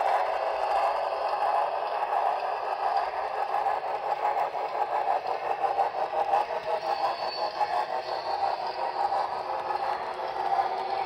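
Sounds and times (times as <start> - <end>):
model train wheels clattering: 0.0 - 11.0.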